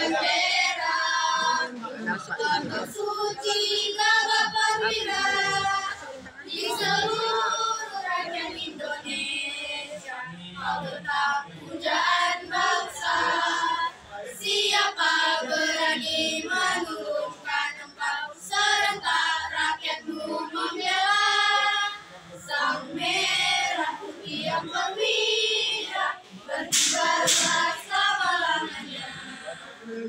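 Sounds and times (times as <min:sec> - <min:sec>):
girls choir singing: 0:00.0 - 0:29.8.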